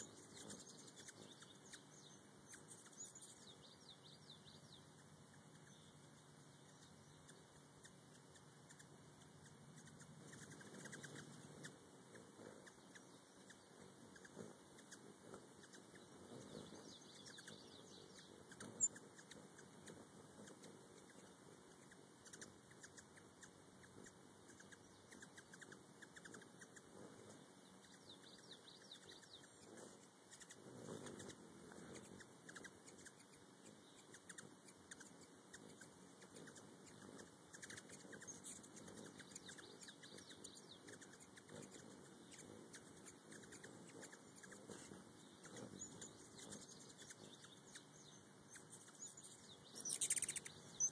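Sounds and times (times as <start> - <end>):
buzzing hum of wings: 0.0 - 50.9
hummingbird chirps: 0.0 - 50.9.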